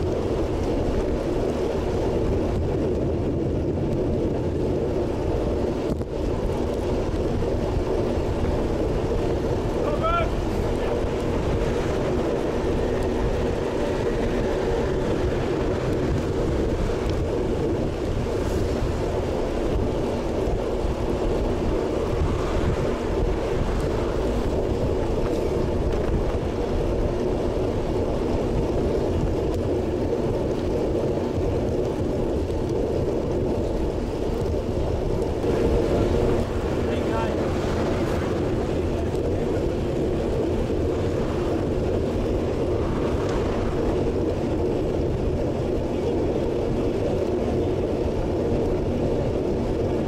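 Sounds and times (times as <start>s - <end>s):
tyre on road hum: 0.0s - 50.0s
wind rushing over microphone: 0.0s - 50.0s.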